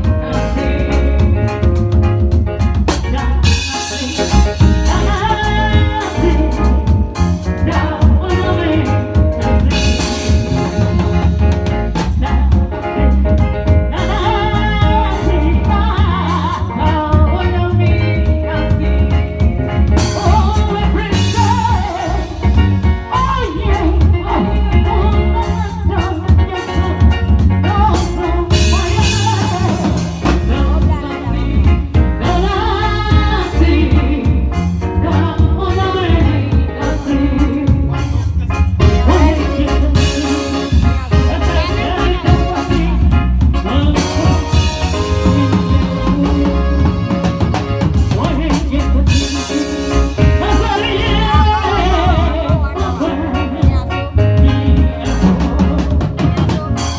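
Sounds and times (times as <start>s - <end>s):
person singing: 0.0s - 2.0s, 2.9s - 56.9s
band playing a song: 0.0s - 56.9s
drum kit beat: 0.0s - 56.9s.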